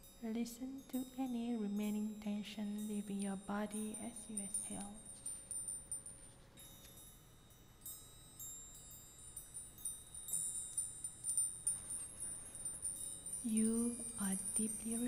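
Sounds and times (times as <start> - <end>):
wind chimes tinkling: 0.0 - 15.0.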